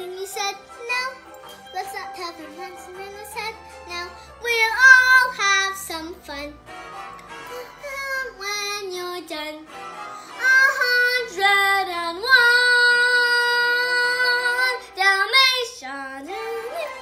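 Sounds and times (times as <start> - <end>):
girl singing: 0.0 - 6.6, 7.4 - 9.7, 10.3 - 17.0
instrumental backing track: 0.0 - 17.0.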